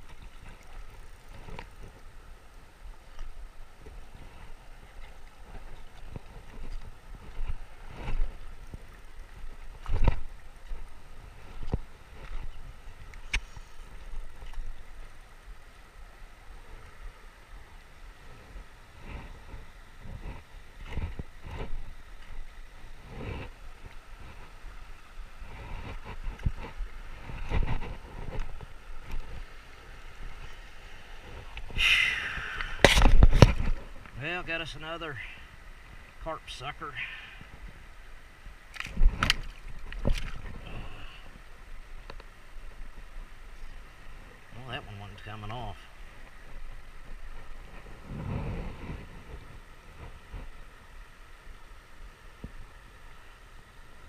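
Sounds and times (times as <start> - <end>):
river water splashing: 0.0 - 54.0
wind rumbling on microphone: 0.0 - 54.0.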